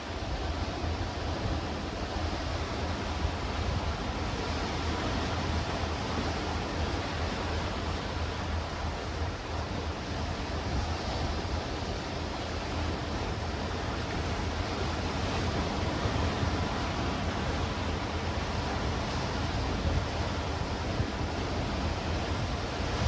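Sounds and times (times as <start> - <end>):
wind on microphone: 0.1 - 23.0
waves breaking on rocks: 2.0 - 23.0.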